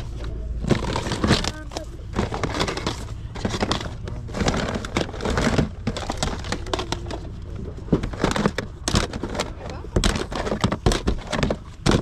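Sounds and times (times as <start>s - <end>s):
plastic cases clicking and clattering: 0.0s - 12.0s.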